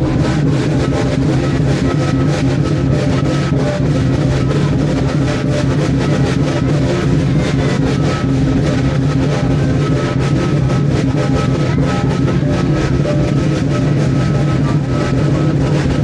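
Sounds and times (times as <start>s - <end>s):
parade drums beating: 0.0s - 16.0s
steady low hum: 0.0s - 16.0s.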